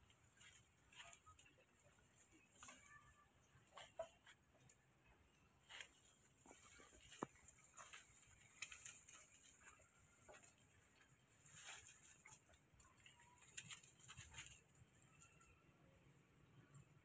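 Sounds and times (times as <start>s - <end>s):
monkeys rustling in branches: 0.0s - 4.8s, 5.6s - 15.5s.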